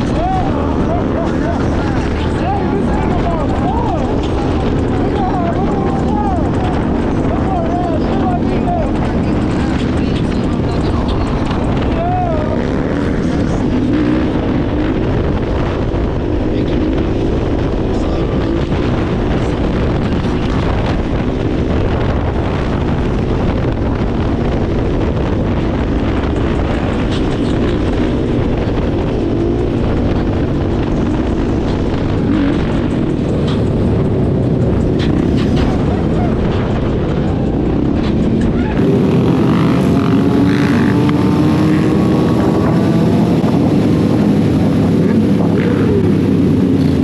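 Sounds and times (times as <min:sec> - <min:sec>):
dirt bike engines running: 0:00.0 - 0:47.0
wind rushing over microphone: 0:00.0 - 0:47.0.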